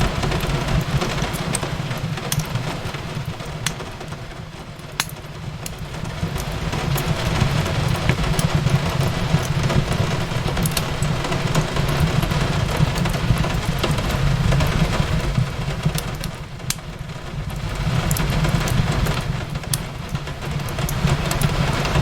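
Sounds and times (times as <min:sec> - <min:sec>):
fireplace crackling: 0:00.0 - 0:22.0
rain on a window: 0:00.0 - 0:22.0.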